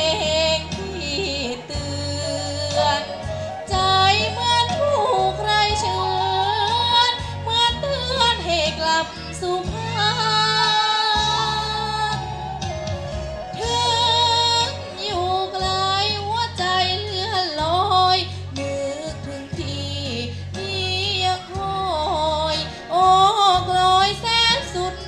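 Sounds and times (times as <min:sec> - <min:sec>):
girl singing into microphone: 0:00.0 - 0:12.7, 0:13.5 - 0:25.0
amplified backing track: 0:00.0 - 0:25.0.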